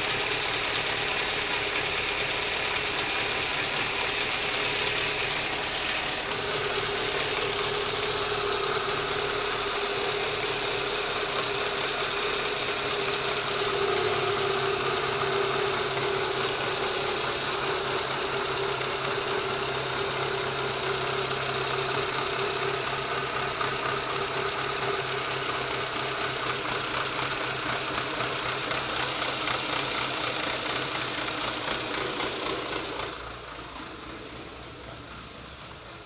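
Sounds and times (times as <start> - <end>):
car engine idling unevenly: 0.0 - 36.0.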